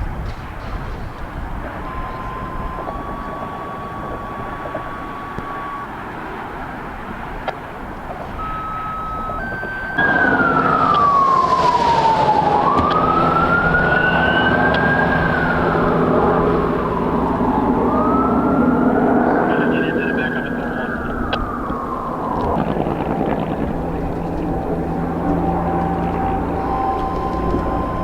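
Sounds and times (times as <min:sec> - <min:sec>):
emergency vehicle siren wailing: 0:00.0 - 0:28.0
heavy engine running: 0:00.0 - 0:28.0.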